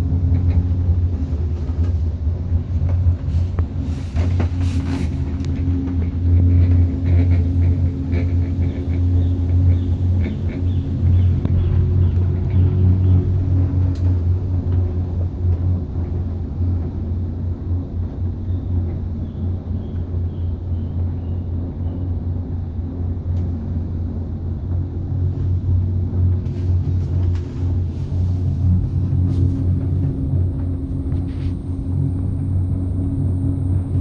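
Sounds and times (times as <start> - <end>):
gondola cabin rumbling: 0.0 - 34.0.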